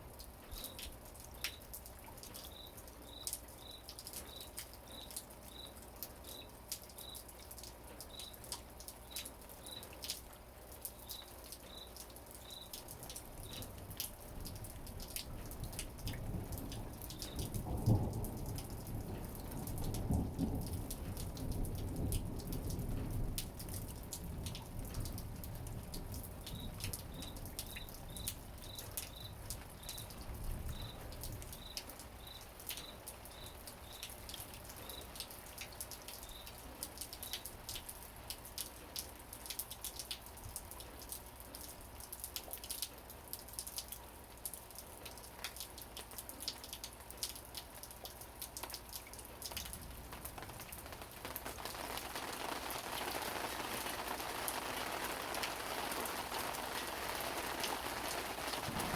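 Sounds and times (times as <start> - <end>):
rain on hard surfaces: 0.0 - 58.9.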